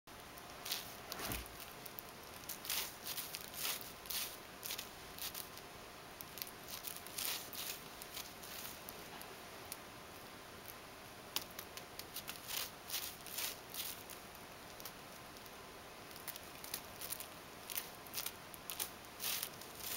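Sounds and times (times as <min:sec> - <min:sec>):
plastic straw rustling and ticking: 0:00.1 - 0:19.9.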